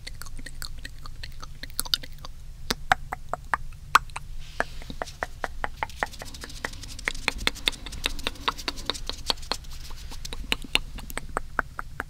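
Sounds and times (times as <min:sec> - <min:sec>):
wet tongue clicks and pops: 0:00.0 - 0:12.0.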